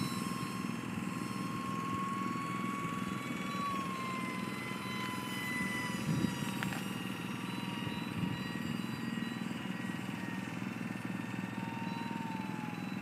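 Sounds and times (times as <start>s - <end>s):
electric fan jet whining: 0.0s - 13.0s.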